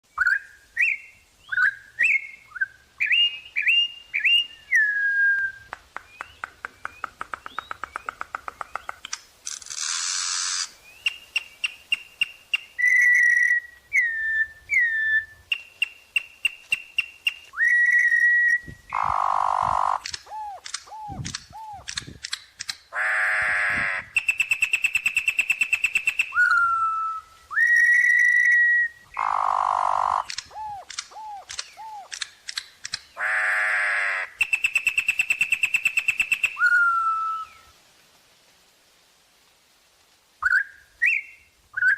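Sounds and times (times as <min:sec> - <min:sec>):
bird singing varied phrases: 0:00.1 - 0:09.2, 0:10.0 - 0:22.2, 0:22.8 - 0:32.2, 0:32.9 - 0:37.7, 0:40.4 - 0:41.9.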